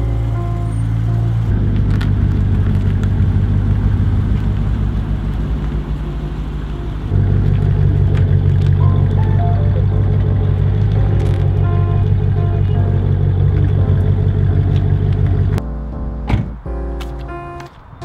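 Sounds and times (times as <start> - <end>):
car engine running: 0.0 - 15.6.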